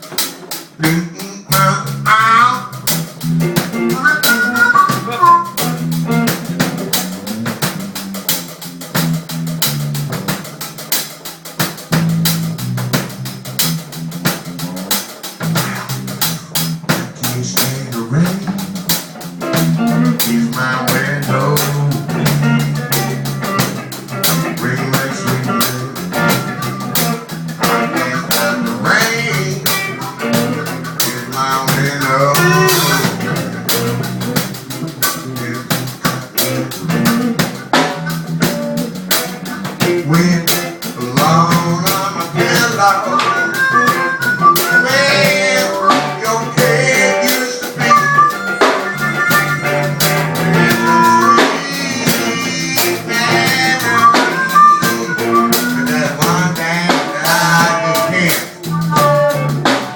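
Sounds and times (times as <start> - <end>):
blues guitar melody: 0.0 - 59.9
drum kit beat with rimshots: 0.0 - 59.9.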